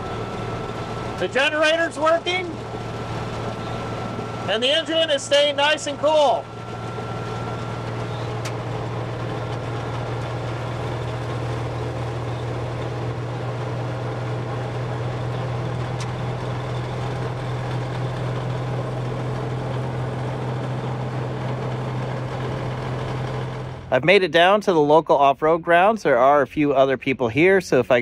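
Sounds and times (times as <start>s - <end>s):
road and drivetrain noise: 0.0s - 24.1s
truck engine droning: 0.0s - 27.6s.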